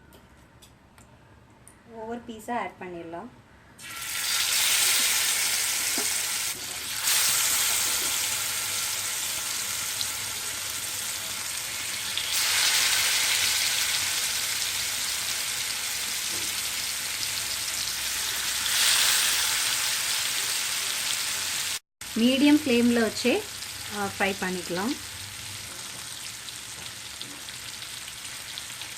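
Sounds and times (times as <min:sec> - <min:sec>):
fish sizzling in oil: 0:03.8 - 0:28.9.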